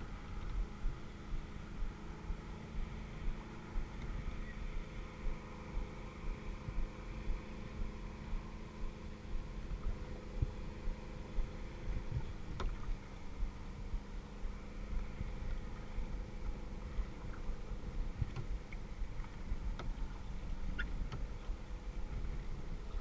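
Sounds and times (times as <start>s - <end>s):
motorboat engine drone: 0.0s - 23.0s
water and wind rumble: 0.0s - 23.0s.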